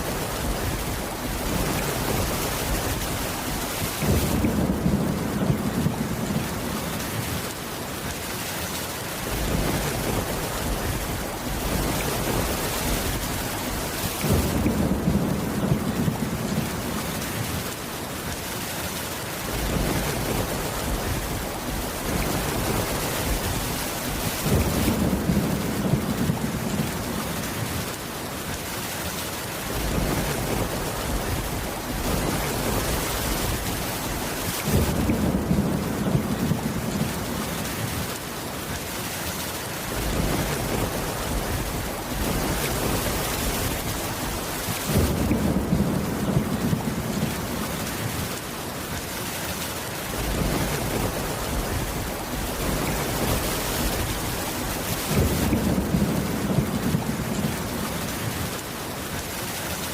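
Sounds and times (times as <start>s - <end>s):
low thunder rumble: 0.0s - 7.5s, 9.2s - 17.7s, 19.5s - 27.8s, 29.7s - 38.1s, 39.9s - 48.3s, 50.1s - 58.6s
heavy rain hissing: 0.0s - 59.9s.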